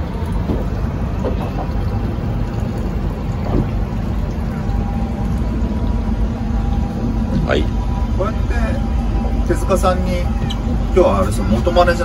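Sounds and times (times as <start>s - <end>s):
motorboat engine idling: 0.0s - 12.0s.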